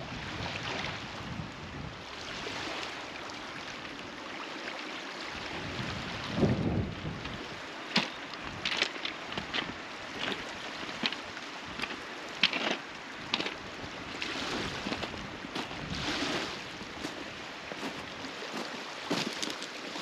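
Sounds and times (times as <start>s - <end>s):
water sloshing and splashing: 2.1s - 20.0s.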